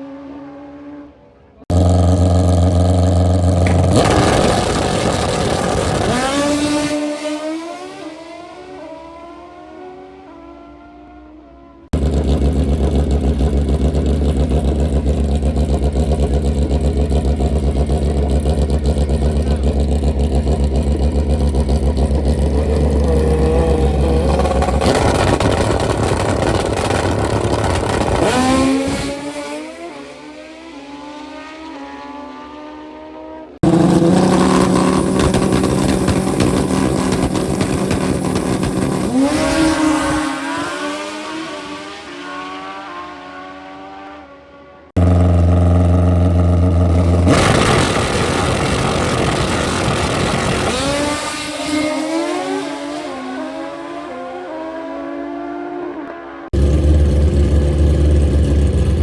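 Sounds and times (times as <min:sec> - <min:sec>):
motorcycle engines at full throttle: 0:00.0 - 0:59.0.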